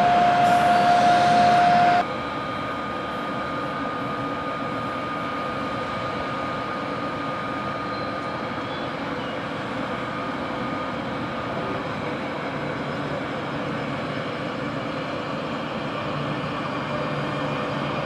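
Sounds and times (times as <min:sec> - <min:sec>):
electric locomotive running hum: 0:00.0 - 0:18.0.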